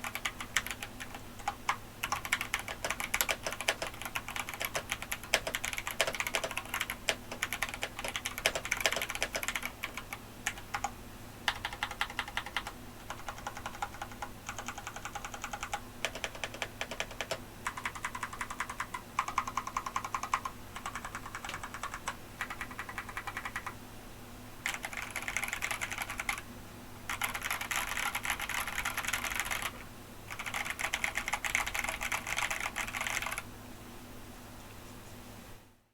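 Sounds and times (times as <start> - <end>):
mechanical keyboard typing: 0.0 - 23.8, 24.6 - 26.4, 27.1 - 33.4.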